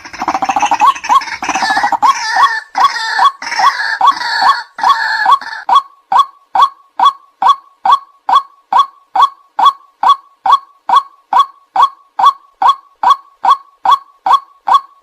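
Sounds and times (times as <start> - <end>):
rough overlapping croaking: 0.0 - 15.0
waterhen croaking: 0.0 - 15.0.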